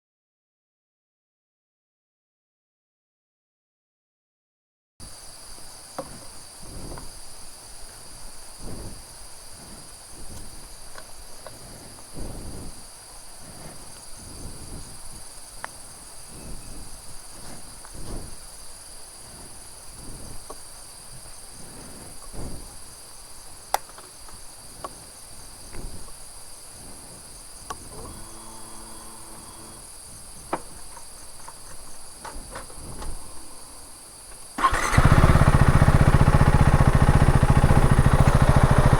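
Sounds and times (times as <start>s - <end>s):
insects chirring: 5.0s - 38.9s.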